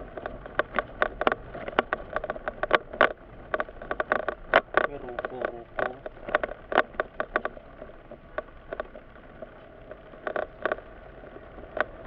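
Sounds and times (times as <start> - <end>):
sharp clicks and knocks: 0.0 - 11.0, 11.6 - 12.0.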